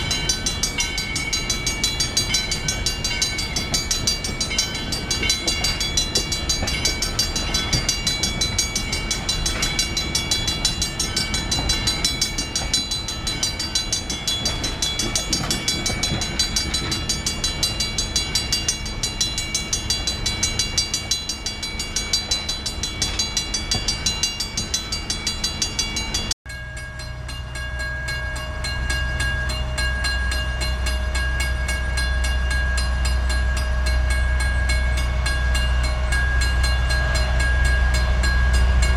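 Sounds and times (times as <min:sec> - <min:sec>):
crossing bell ringing: 0:00.0 - 0:38.9
low rumble of approaching train: 0:00.0 - 0:38.9
train coaches rolling on rails: 0:00.0 - 0:38.9.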